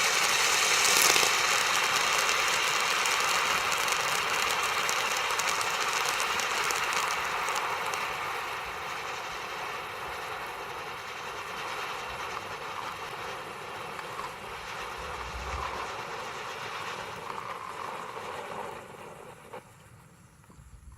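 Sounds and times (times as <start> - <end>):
ground spinner firework hissing: 0.0 - 20.9.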